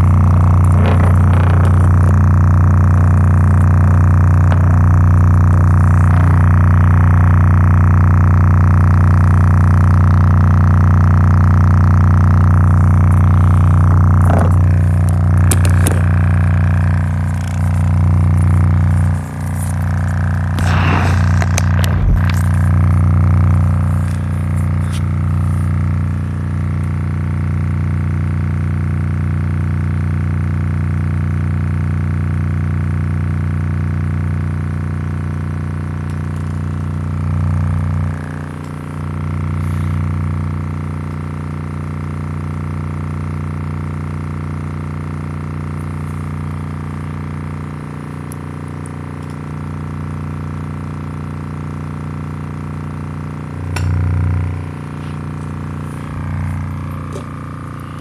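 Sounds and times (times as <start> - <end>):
speaker low bass drone: 0.0 - 58.0.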